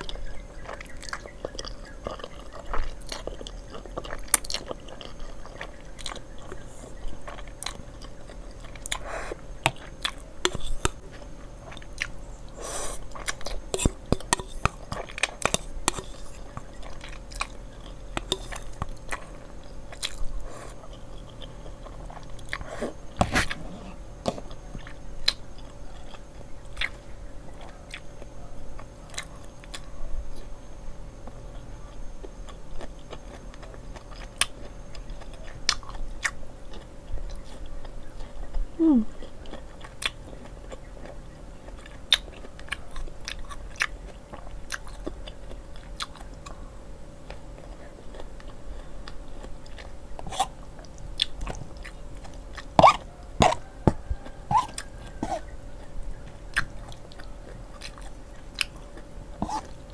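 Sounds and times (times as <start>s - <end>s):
chewing and biting noodles: 0.0s - 27.0s, 32.2s - 46.6s, 47.2s - 59.9s
faint steady hum: 0.0s - 59.9s.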